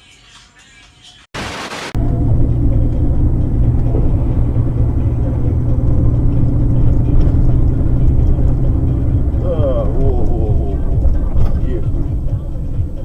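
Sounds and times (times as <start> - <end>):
car engine and road rumble: 1.9 - 13.0.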